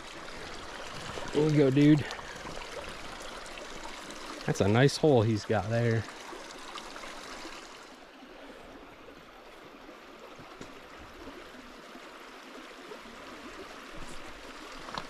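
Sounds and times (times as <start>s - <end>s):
creek flowing: 0.0s - 15.0s.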